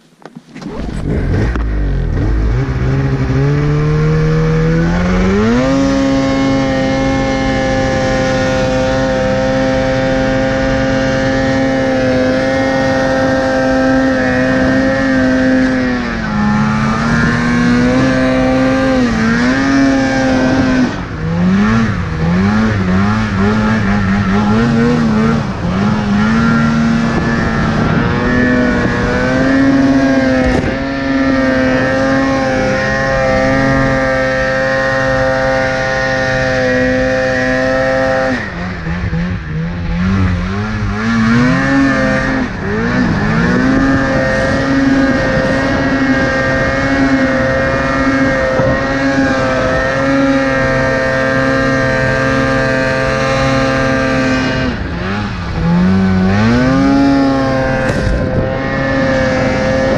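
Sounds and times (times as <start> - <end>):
snowmobile engine revving: 0.6 - 59.9.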